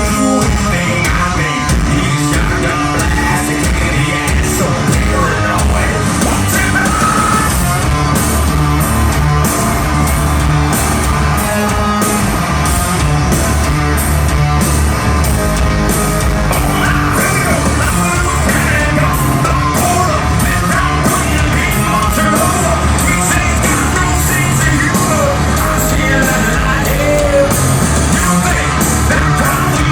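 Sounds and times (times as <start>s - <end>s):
rock band playing live: 0.0s - 29.9s
singer singing and yelling: 0.0s - 29.9s.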